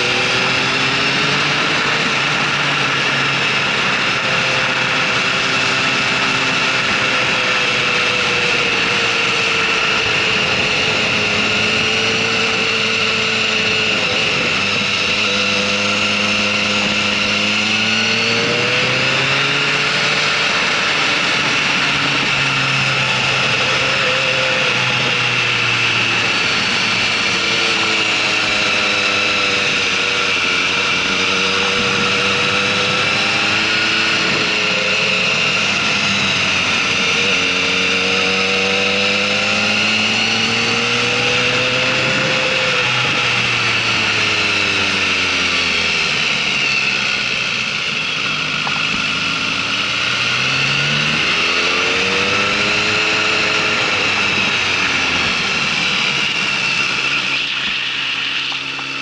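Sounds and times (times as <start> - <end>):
motorcycle engine revving: 0.0 - 59.0
rushing wind noise: 0.0 - 59.0.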